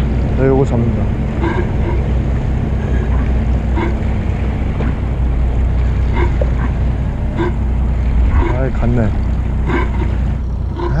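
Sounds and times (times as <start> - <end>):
boat engine drone: 0.0 - 11.0
wind buffeting microphone: 0.0 - 11.0.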